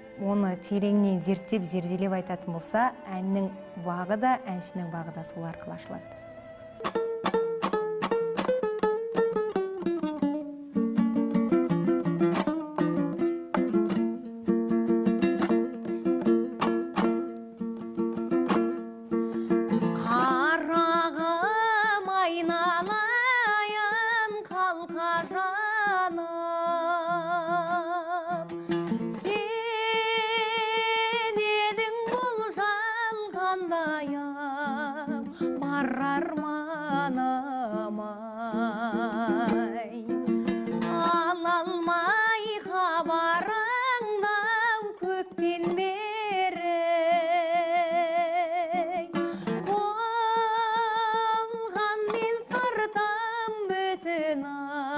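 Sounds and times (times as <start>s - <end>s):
plucked strings: 0.0s - 54.9s.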